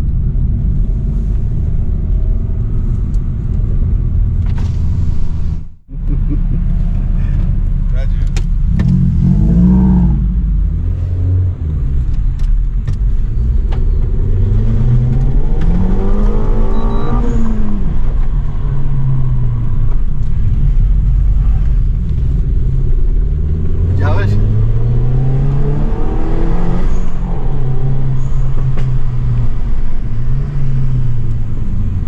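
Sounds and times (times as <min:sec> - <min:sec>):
car engine revving: 0:05.0 - 0:32.0.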